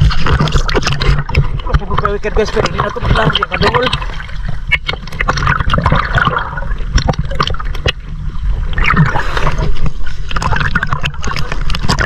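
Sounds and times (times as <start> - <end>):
small waves slapping housing: 0.0 - 12.0
water sloshing and gurgling: 0.0 - 12.0.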